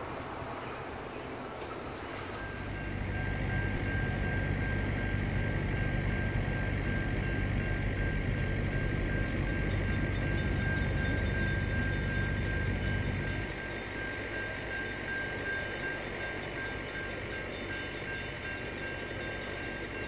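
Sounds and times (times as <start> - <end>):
diesel locomotive engine rumble: 0.0 - 20.0
crossing bell ringing: 2.2 - 20.0.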